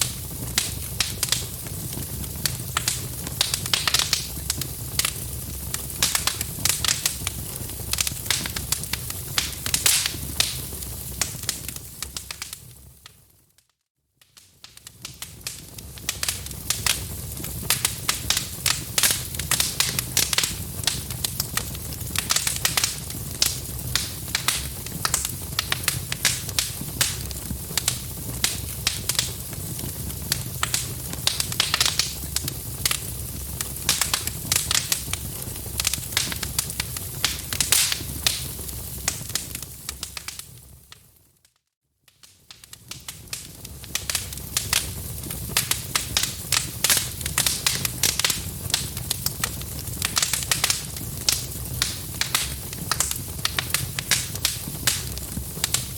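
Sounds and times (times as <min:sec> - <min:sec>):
fire crackling and popping: 0:00.0 - 0:13.6, 0:14.2 - 0:55.9.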